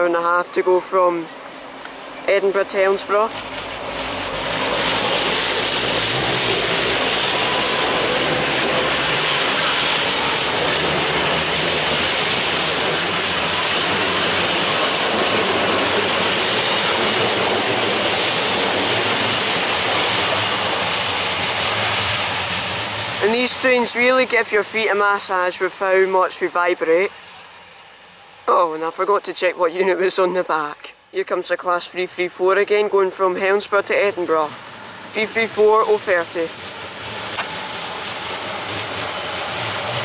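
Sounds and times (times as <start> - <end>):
electric train running past: 0.0 - 40.0.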